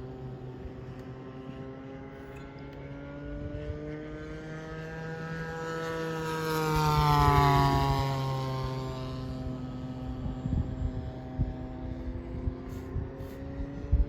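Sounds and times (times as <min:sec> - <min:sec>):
model airplane propeller: 0:00.0 - 0:14.0.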